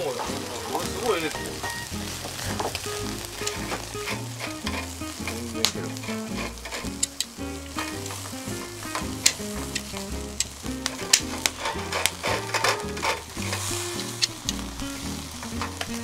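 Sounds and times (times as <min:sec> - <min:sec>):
background music with bass: 0:00.0 - 0:16.0
metal tongs on grill: 0:00.0 - 0:16.0
steak sizzling on a grill: 0:00.0 - 0:16.0.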